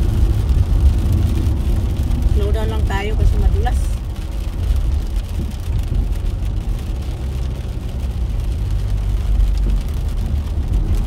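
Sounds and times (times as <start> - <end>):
car road rumble: 0.0 - 11.0
rain ticking on windshield: 0.0 - 11.0
tyres on wet road: 0.0 - 11.0.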